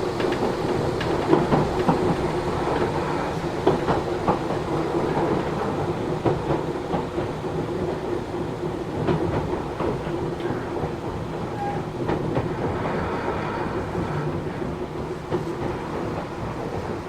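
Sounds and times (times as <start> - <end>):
electric train rumbling inside: 0.0 - 17.0.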